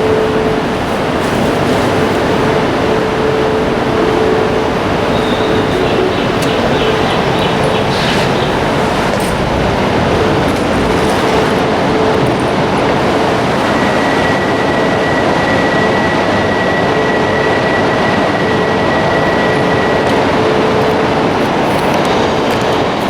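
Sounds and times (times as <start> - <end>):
high steady whine: 0.0 - 23.0
train mechanical noise: 0.0 - 23.0.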